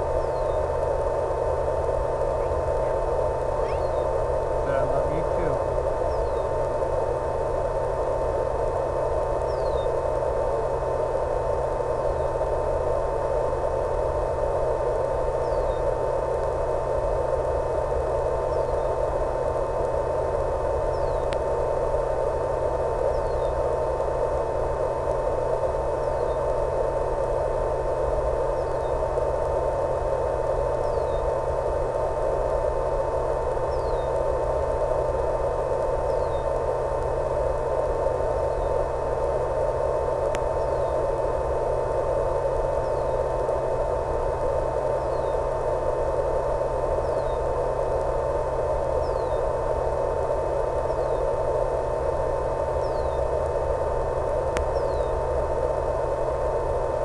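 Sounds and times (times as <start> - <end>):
constant mid-pitched tone: 0.0 - 57.0
low hum: 0.0 - 57.0
radio static hiss: 0.0 - 57.0.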